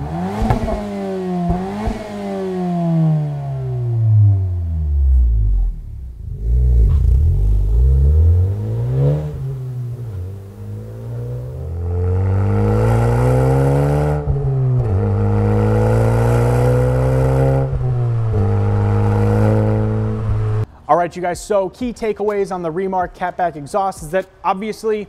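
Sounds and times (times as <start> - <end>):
car engine revving: 0.0 - 20.7.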